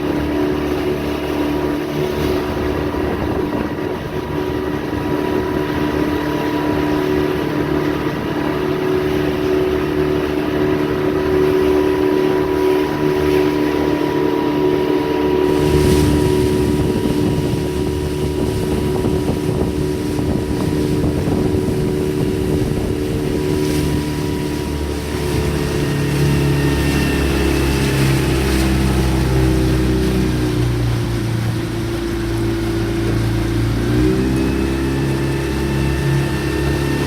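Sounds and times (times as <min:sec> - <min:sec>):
motorboat engine rumbling: 0:00.0 - 0:37.0
wind on microphone: 0:00.0 - 0:37.0.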